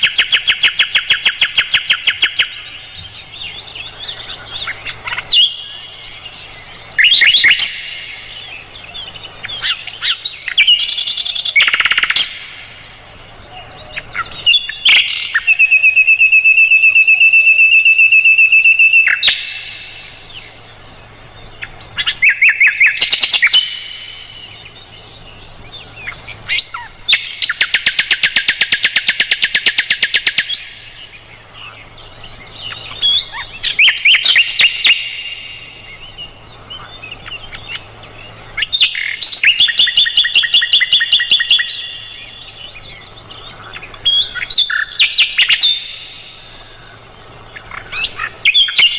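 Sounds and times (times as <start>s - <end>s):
bird trilling and chattering: 0.0s - 48.9s.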